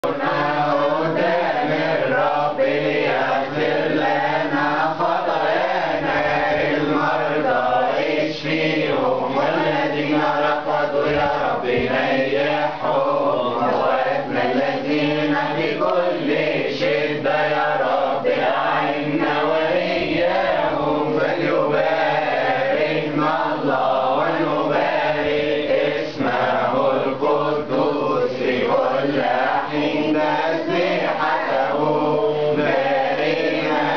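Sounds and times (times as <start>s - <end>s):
group of voices chanting: 0.0s - 33.9s.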